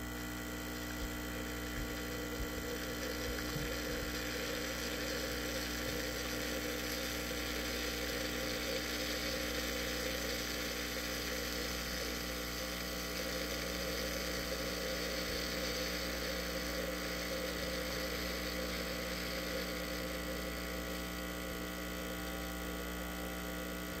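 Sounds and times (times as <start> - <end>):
espresso machine pump running: 0.0 - 24.0.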